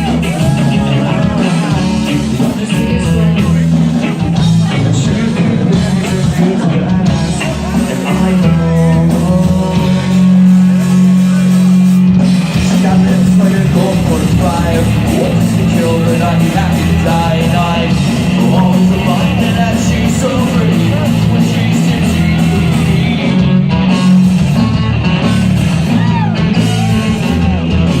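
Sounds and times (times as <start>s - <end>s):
person singing: 0.0s - 24.8s
bass line: 0.0s - 28.0s
drums with cymbal hits: 0.0s - 28.0s
electric guitar: 0.0s - 28.0s.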